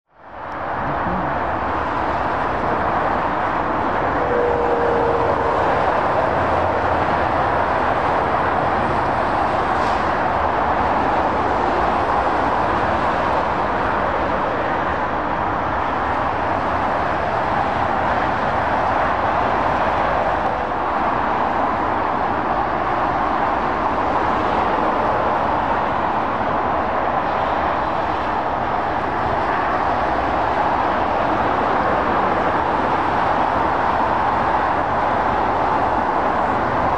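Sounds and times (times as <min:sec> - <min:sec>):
motorway traffic hiss: 0:00.3 - 0:36.9.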